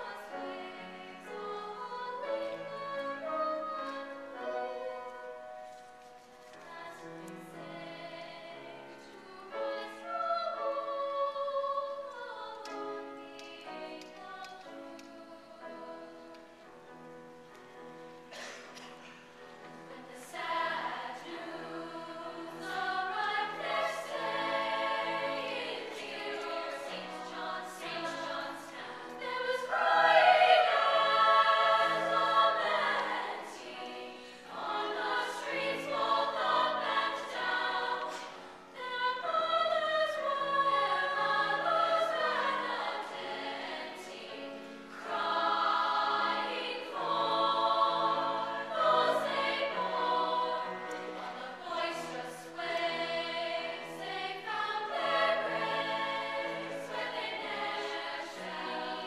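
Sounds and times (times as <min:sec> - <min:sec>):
youth choir singing: 0:00.0 - 0:05.3, 0:06.6 - 0:16.5, 0:19.6 - 0:59.0.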